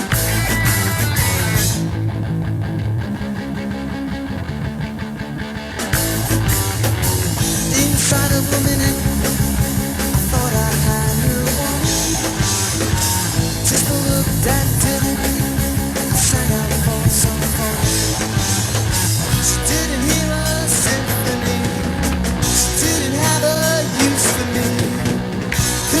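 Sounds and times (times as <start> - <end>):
bass guitar: 0.0 - 26.0
electric guitar: 0.0 - 26.0
rock drums: 0.0 - 26.0.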